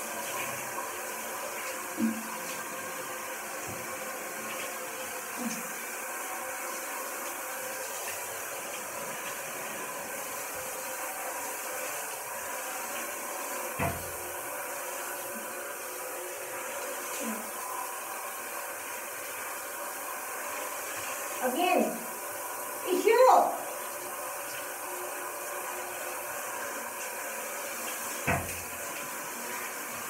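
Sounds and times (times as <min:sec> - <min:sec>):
shower water running: 0:00.0 - 0:30.0.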